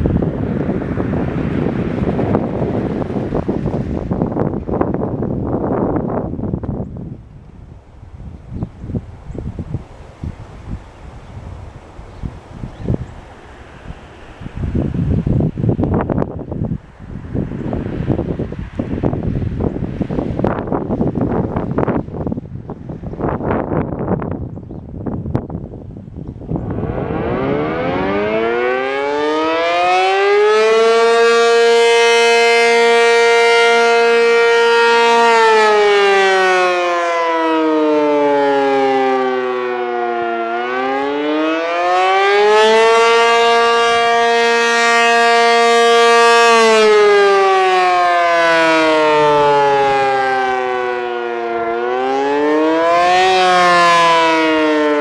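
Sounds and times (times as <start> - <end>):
rising and falling warning siren: 0.0 - 24.4, 25.0 - 55.0.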